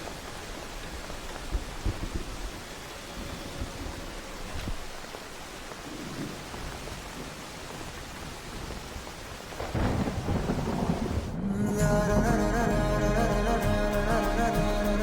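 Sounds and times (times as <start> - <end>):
rain-like hiss: 0.0 - 15.0.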